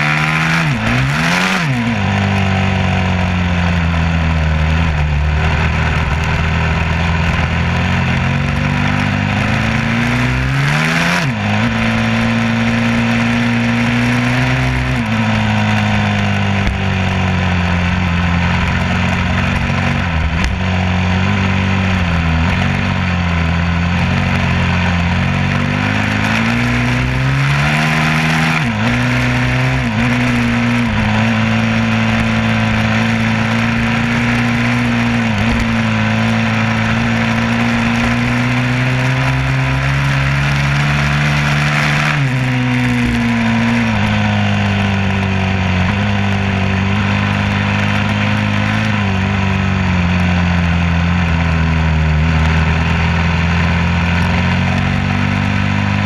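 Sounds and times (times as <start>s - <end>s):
vehicle engine running under load: 0.0s - 56.0s.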